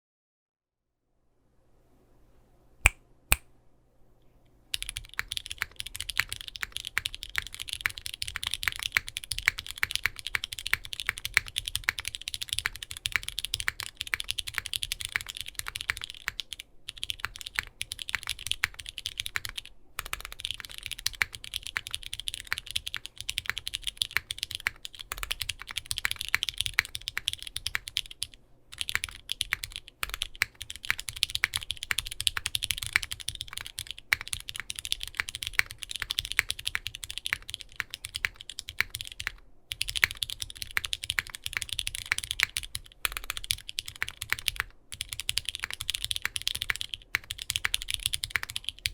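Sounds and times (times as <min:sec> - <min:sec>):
mechanical keyboard typing: 0:04.7 - 0:48.9.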